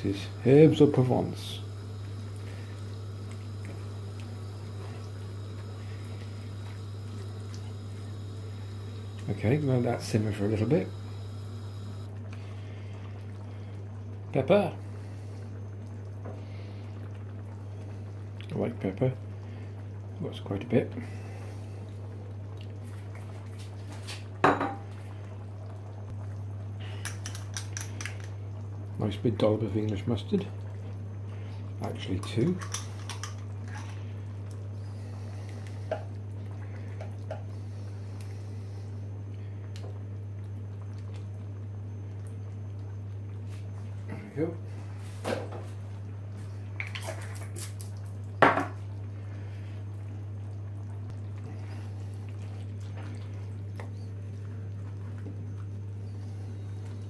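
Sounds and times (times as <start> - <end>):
sauce bubbling in a pan: 0.0 - 45.0, 45.7 - 57.0
steady low hum: 0.0 - 46.8, 47.8 - 57.0.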